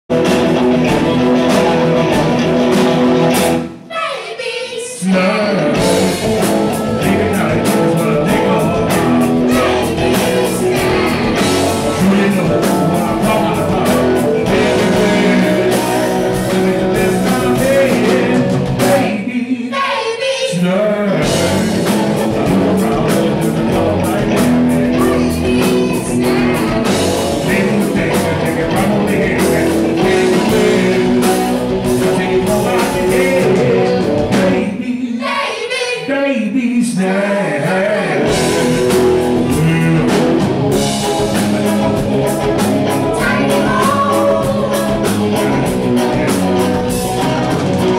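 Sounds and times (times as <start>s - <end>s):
rock band playing live: 0.0s - 36.1s, 37.6s - 47.9s
lead singer: 3.9s - 47.9s.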